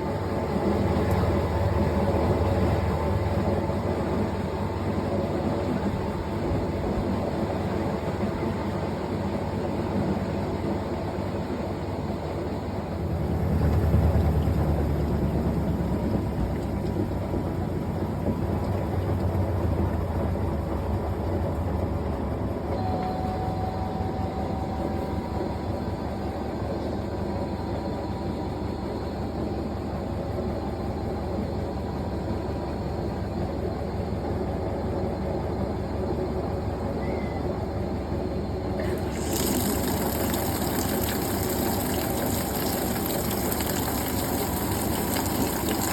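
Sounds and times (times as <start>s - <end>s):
washing machine running: 0.0s - 45.9s.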